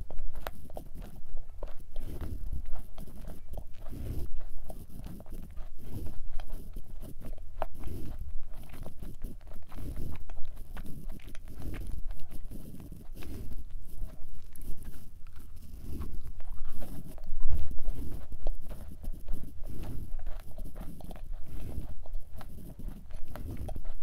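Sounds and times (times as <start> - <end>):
chewing cookie: 0.0 - 24.0
wet mouth clicks: 0.0 - 24.0.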